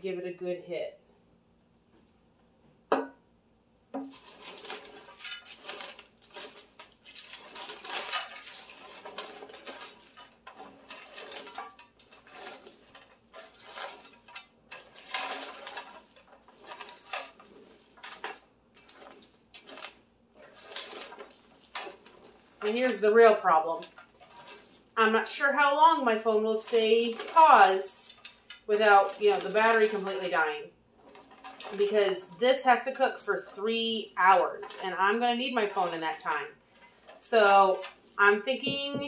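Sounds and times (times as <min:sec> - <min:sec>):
spatula stirring dry snack mix: 0:04.0 - 0:39.0.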